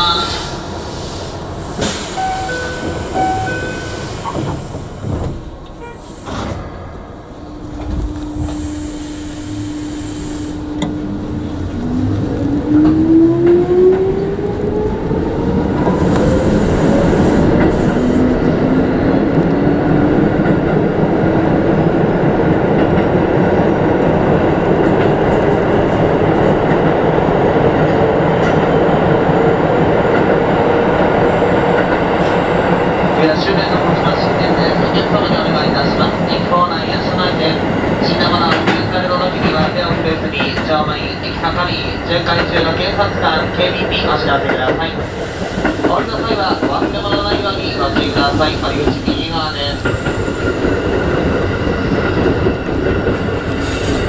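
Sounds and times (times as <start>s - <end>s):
wheels rumbling on rails: 1.6s - 54.0s.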